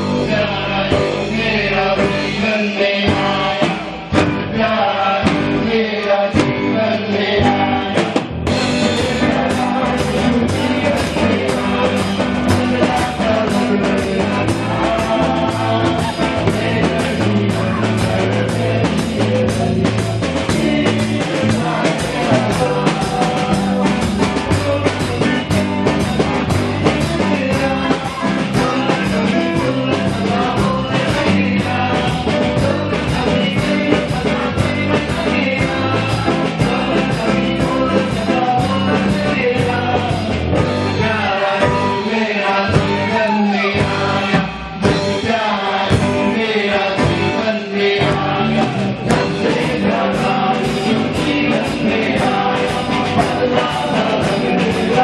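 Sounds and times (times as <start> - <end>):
rock band playing worship song: 0.0 - 55.0
singing: 0.0 - 55.0
drum beat: 7.4 - 55.0.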